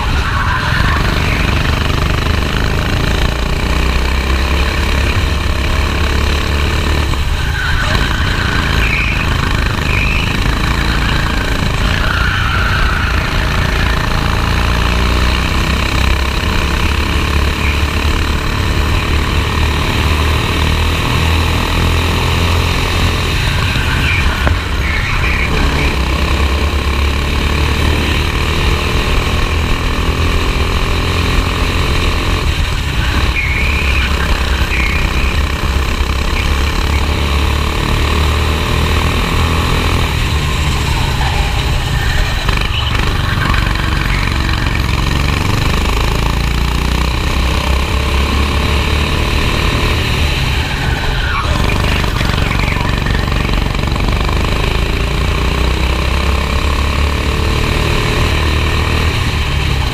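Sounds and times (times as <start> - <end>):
go-kart engine droning: 0.0 - 59.9.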